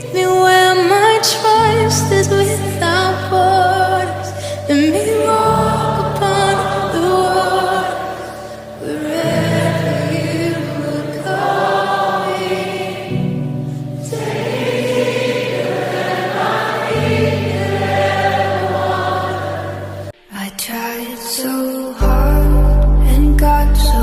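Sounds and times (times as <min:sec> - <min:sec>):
choir singing held chords: 0:00.0 - 0:20.2.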